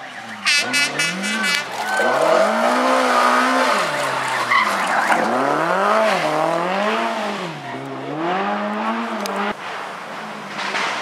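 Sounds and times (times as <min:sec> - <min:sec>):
rally car engine revving: 0:00.0 - 0:11.0
tyre and road noise: 0:00.0 - 0:11.0.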